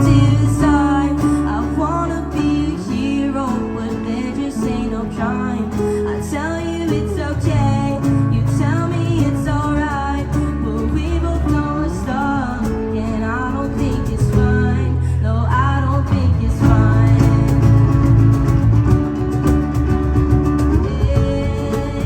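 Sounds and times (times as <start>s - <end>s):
guitar: 0.0s - 22.0s
low accompaniment: 0.0s - 22.0s
person singing: 0.0s - 22.0s.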